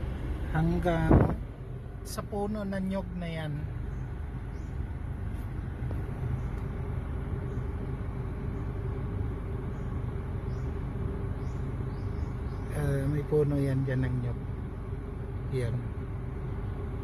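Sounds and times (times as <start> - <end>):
faint steady hum: 0.0 - 17.0
motor rumbling steadily: 0.0 - 17.0.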